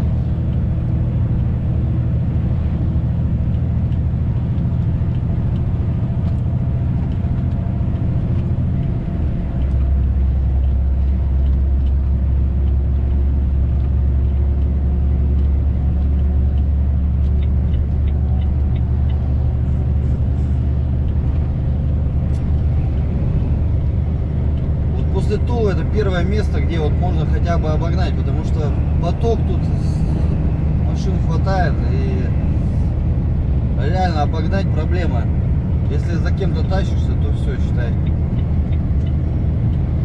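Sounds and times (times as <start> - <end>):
truck diesel engine accelerating: 0.0 - 40.0.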